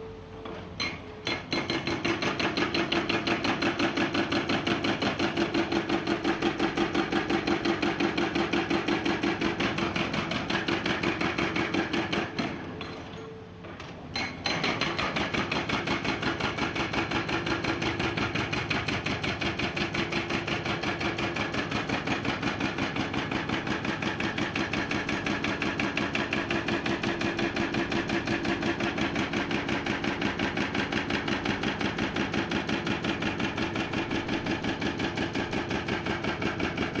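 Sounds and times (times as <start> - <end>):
hydraulic breaker pounding rock: 0.8 - 13.2, 13.9 - 37.0.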